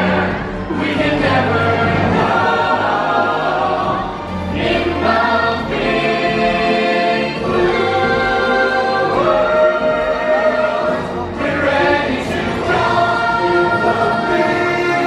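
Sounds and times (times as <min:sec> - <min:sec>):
instrumental accompaniment: 0:00.0 - 0:15.0
voices singing in harmony: 0:00.0 - 0:15.0.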